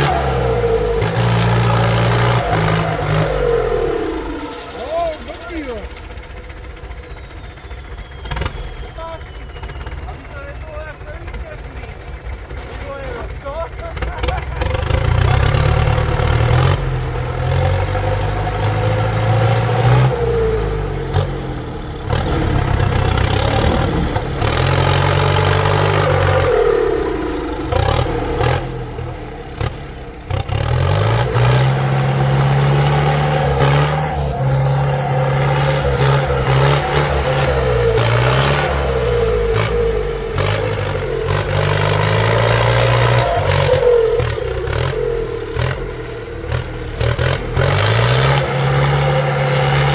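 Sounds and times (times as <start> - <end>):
heavy vehicle engines revving: 0.0 - 49.9.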